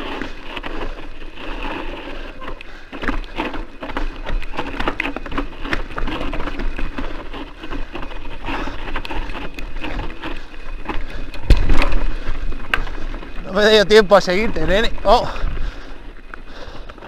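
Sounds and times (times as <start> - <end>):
bike clicks and knocks: 0.0 - 17.0
bike tyres crunching on rocky trail: 0.0 - 17.0.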